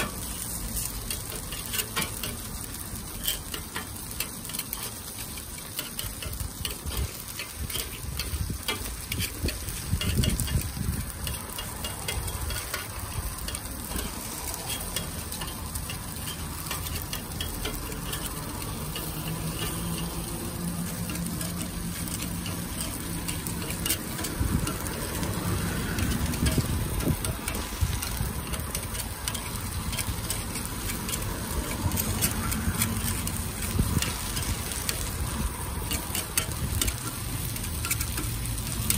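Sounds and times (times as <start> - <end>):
batter sizzling on a griddle: 0.0 - 38.9
metal pick scraping a plate: 0.0 - 38.9.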